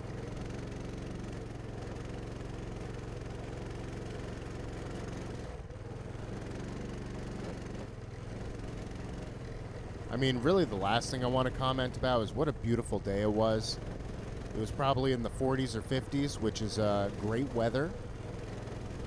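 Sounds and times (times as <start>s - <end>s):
mini bike engine at full throttle: 0.0s - 19.0s.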